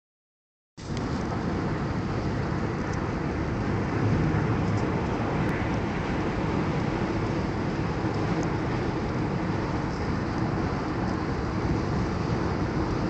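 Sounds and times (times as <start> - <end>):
car road and engine rumble: 0.8 - 13.0.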